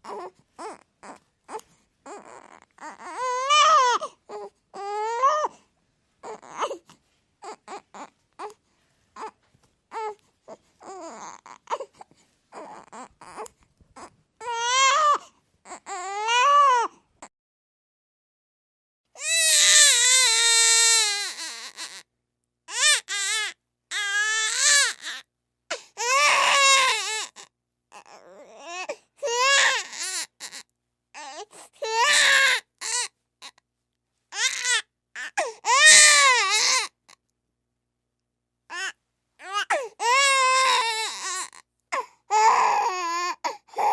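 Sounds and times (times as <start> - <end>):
infant crying: 0.0 - 5.6, 6.2 - 8.6, 9.2 - 17.3, 19.2 - 22.1, 22.7 - 33.6, 34.3 - 37.2, 38.7 - 43.9.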